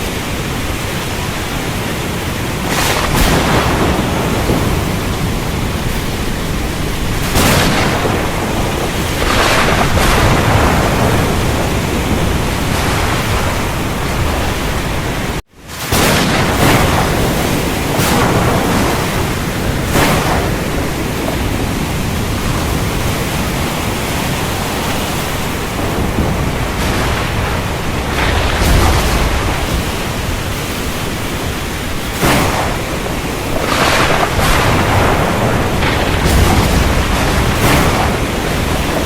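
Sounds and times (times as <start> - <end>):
heavy rain hissing: 0.0 - 39.0
low thunder rumble: 0.0 - 39.0
sharp cracks of thunder: 2.4 - 39.0.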